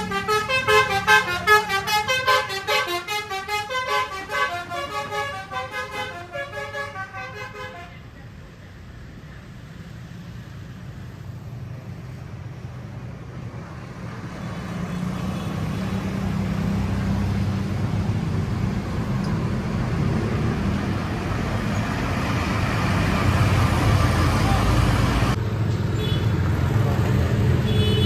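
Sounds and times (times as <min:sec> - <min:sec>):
bus engine rumbling: 0:00.0 - 0:28.0
road noise: 0:00.0 - 0:28.0.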